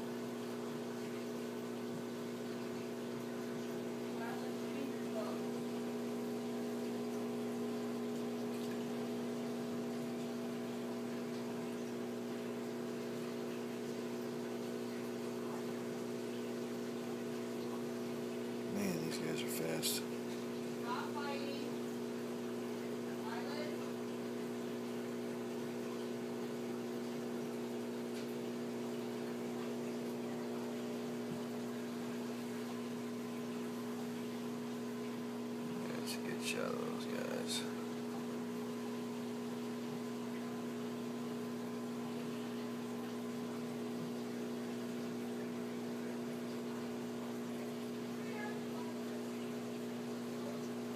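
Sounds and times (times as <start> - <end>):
aquarium pump humming: 0.0 - 50.9
moving water: 0.0 - 50.9.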